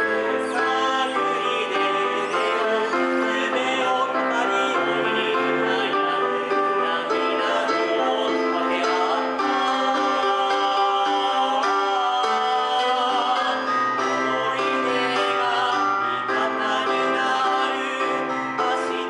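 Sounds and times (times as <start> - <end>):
digital piano: 0.0 - 19.0
two men singing: 0.0 - 19.0.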